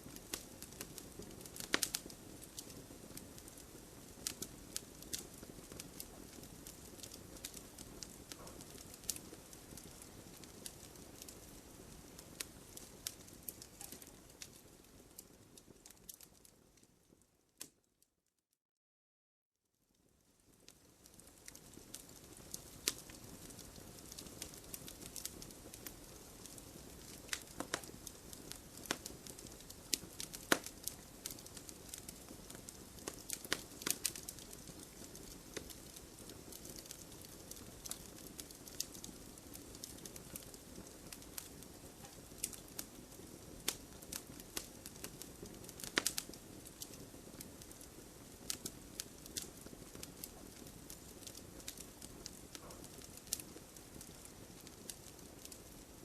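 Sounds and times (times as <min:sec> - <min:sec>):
hiss of flames: 0:00.0 - 0:14.8, 0:21.1 - 0:56.0
wood fire crackling and popping: 0:00.0 - 0:17.8, 0:20.0 - 0:56.0.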